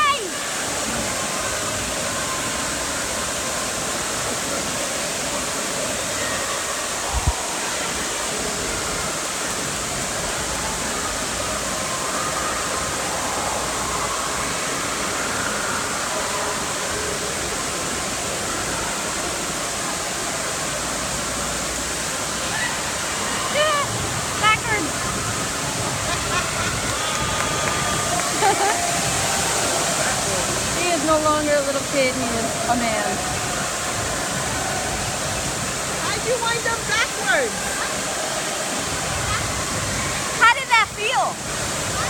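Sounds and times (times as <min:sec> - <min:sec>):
water rushing into pool: 0:00.0 - 0:42.0.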